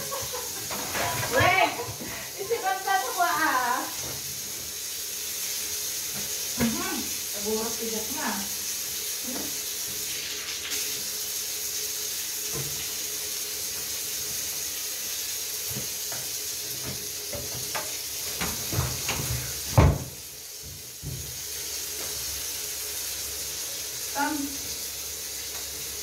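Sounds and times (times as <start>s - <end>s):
shower water running: 0.0s - 26.0s.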